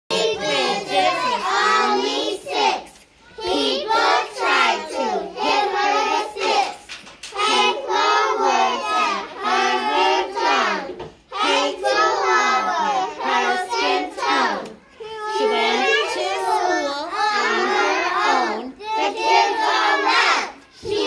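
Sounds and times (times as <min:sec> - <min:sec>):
children's voices in unison: 0:00.1 - 0:21.0.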